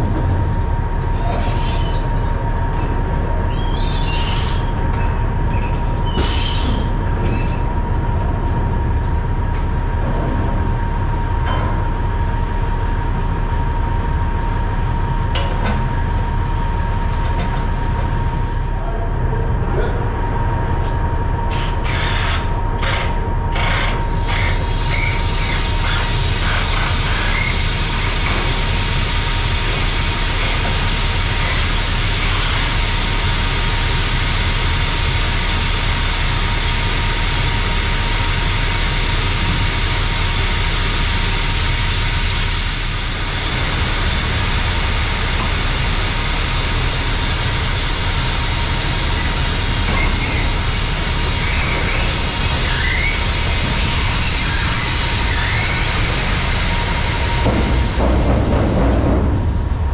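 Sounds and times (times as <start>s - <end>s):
low machinery hum: 0.0s - 59.9s.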